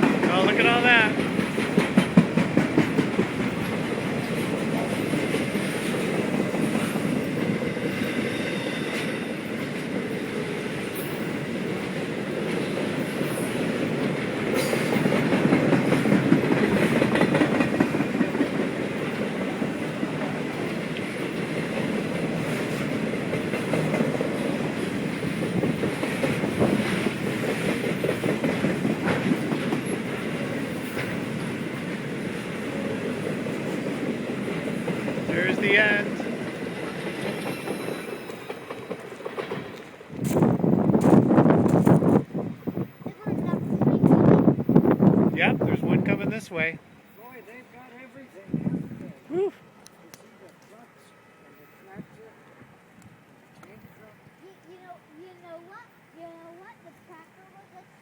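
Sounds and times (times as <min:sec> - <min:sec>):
train wheels clicking over rails: 0:00.0 - 0:47.6
train rumble: 0:00.0 - 0:58.0.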